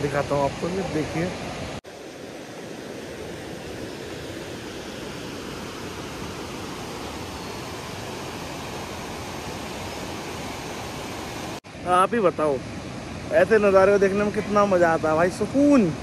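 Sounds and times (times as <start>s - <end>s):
mountain river rushing: 0.0s - 16.0s.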